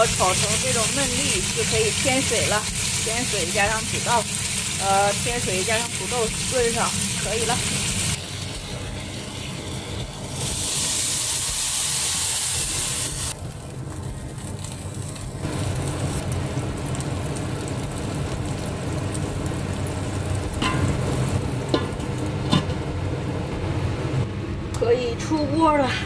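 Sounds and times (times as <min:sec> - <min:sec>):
wok sizzling: 0:00.0 - 0:24.7.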